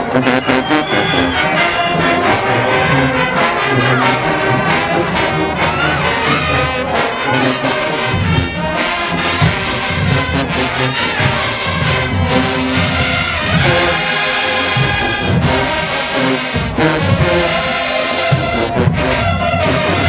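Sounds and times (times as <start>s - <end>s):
marching band brass music: 0.0s - 20.0s
driving drum beat: 0.2s - 20.0s.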